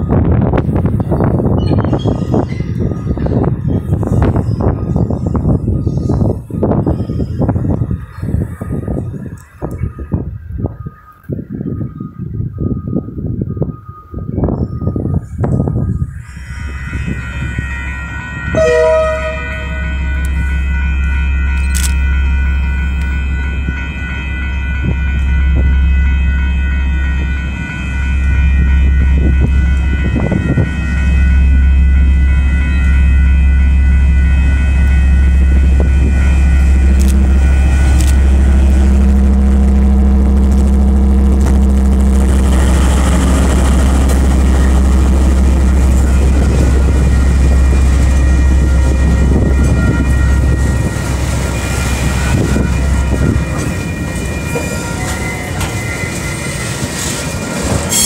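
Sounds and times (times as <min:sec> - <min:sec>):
diesel locomotive engine rumble: 0:00.0 - 0:58.0
level crossing warning bells: 0:00.0 - 0:58.0.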